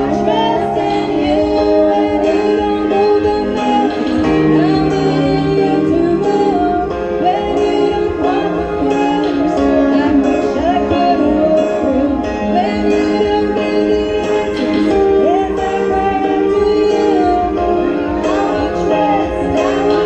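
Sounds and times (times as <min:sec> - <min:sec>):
instrumental accompaniment: 0:00.0 - 0:20.0
woman singing into microphone: 0:00.0 - 0:20.0.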